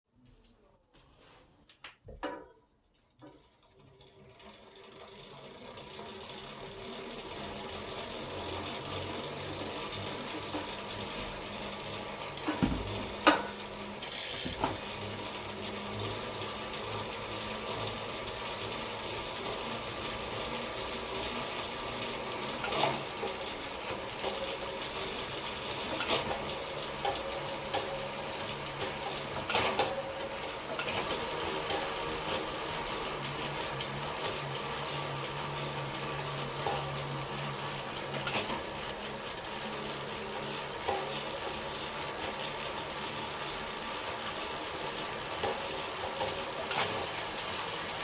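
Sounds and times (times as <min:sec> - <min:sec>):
bicycle chain whirring: 0:03.2 - 0:48.0.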